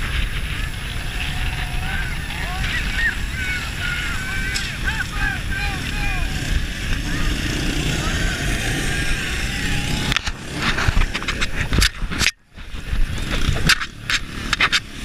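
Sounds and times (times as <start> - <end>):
wind on microphone: 0.0 - 14.4
snowmobile engine running: 0.0 - 15.0.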